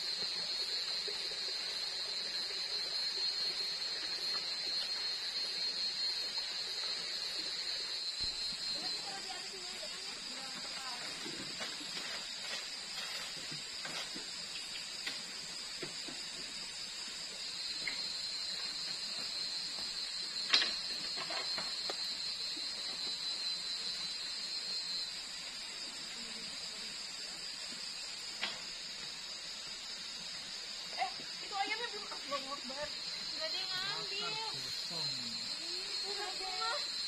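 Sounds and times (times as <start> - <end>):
night insects chirring: 0.0 - 37.0
thin high insect trill: 0.0 - 37.0.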